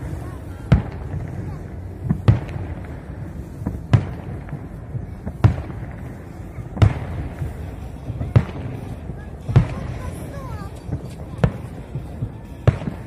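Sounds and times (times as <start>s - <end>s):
distant firework bangs: 0.0s - 13.0s
steady low rumble: 0.0s - 13.0s.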